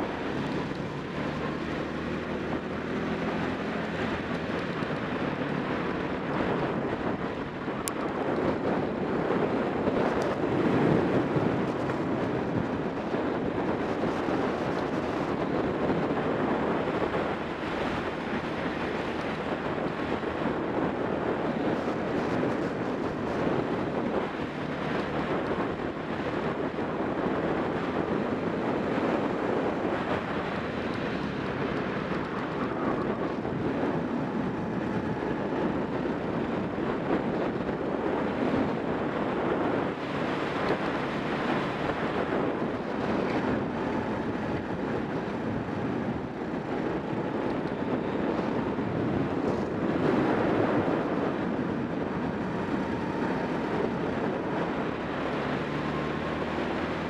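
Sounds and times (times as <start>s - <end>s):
kart engine running: 0.0s - 57.0s
wind rushing over microphone: 0.0s - 57.0s.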